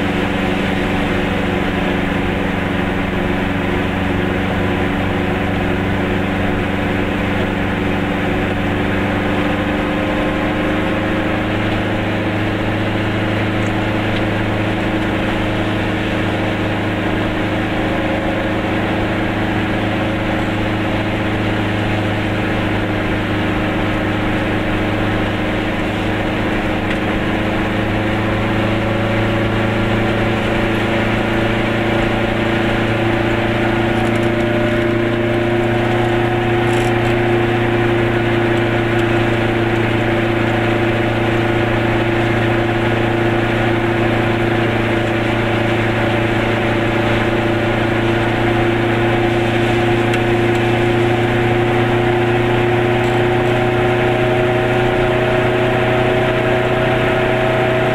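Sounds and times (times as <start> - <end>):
small two-stroke car engine: 0.0 - 57.9.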